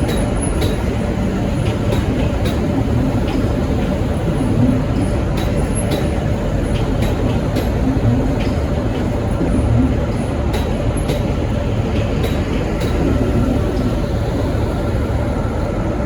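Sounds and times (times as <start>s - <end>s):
locomotive engine and wheels rumbling: 0.0s - 16.0s.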